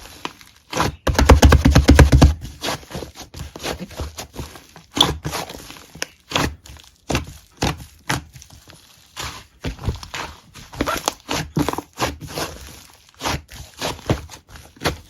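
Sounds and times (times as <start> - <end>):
hands squishing slime: 0.0 - 15.0.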